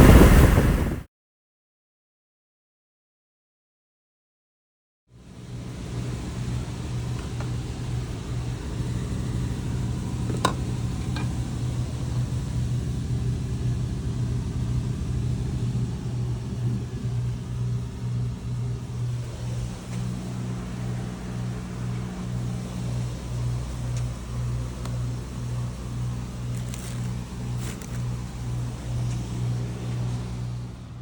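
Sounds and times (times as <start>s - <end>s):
car engine droning: 5.4s - 31.0s.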